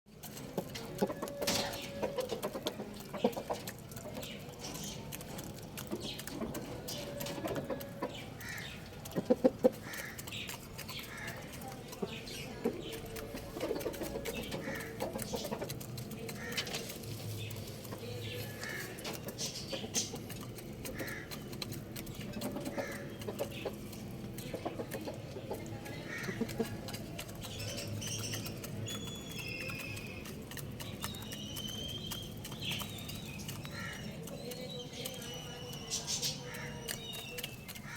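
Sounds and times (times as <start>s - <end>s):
chickens clucking: 0.1s - 37.9s
small birds chirping: 0.1s - 37.9s.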